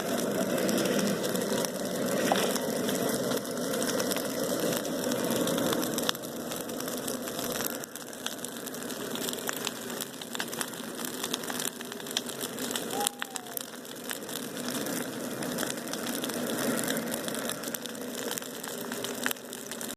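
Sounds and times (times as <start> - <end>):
bonfire crackling and popping: 0.0 - 19.9.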